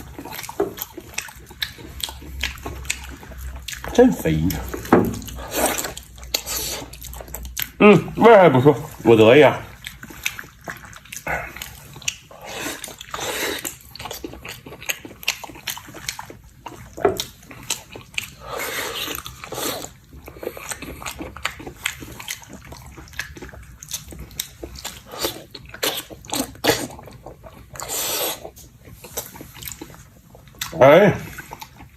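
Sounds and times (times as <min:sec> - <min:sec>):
crunchy chewing: 0:00.0 - 0:07.8, 0:08.8 - 0:31.9.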